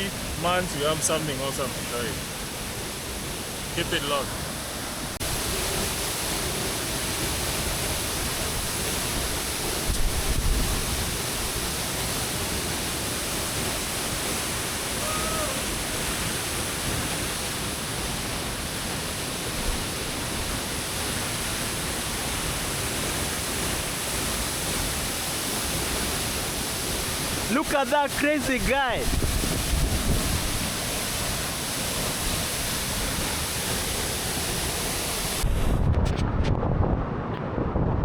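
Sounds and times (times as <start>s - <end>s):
waterfall rushing: 0.0s - 35.8s.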